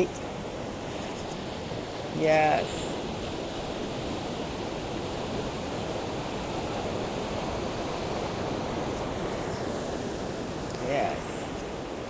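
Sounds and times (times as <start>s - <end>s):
rough ocean surf rushing: 0.0s - 12.0s.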